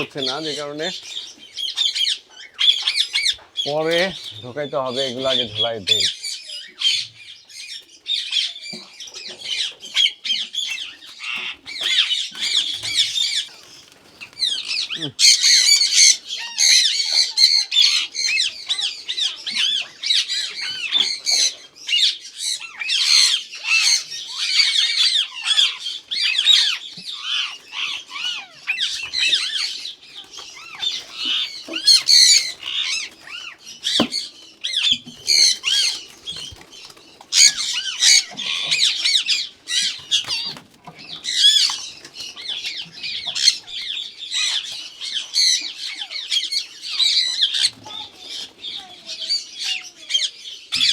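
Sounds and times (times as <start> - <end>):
parakeets screeching and squawking: 0.0 - 50.9.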